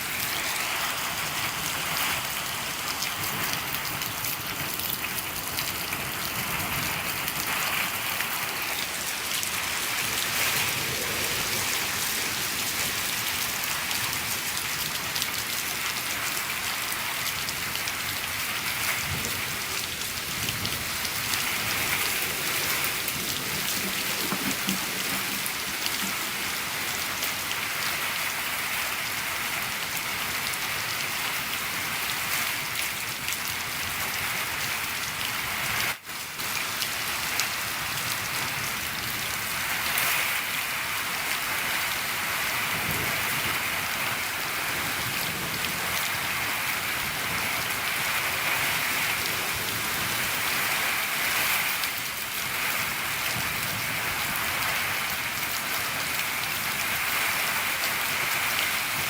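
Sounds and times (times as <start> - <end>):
rain on a shed roof: 0.0 - 59.0.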